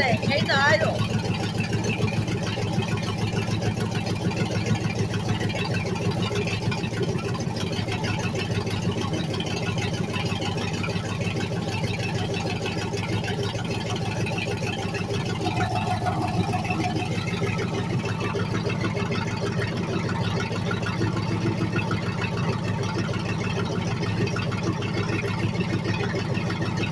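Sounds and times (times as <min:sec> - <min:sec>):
race car engine idling: 0:00.0 - 0:26.9.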